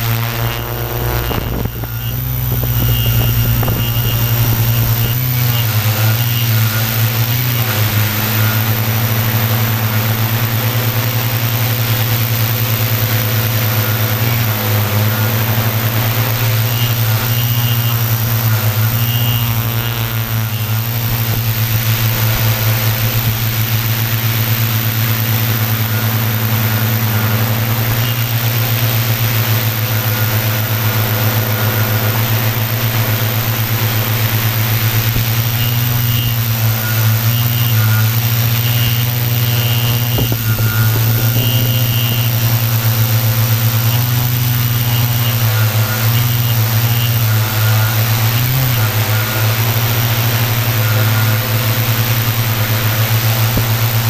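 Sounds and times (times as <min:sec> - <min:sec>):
quadcopter propellers buzzing: 0:00.0 - 0:54.0.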